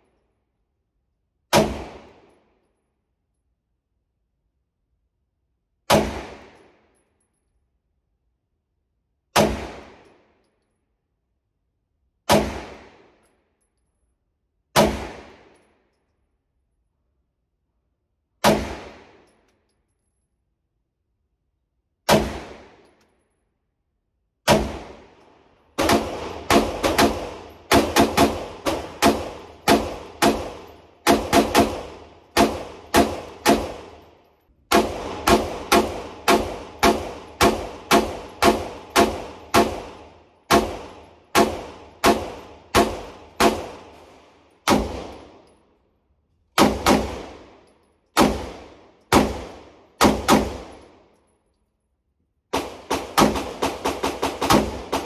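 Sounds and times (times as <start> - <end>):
pistol shots echoing indoors: 0.0 - 3.2, 5.4 - 7.4, 8.4 - 13.8, 14.4 - 16.0, 18.1 - 19.7, 21.7 - 23.4, 24.3 - 51.7, 52.3 - 55.0.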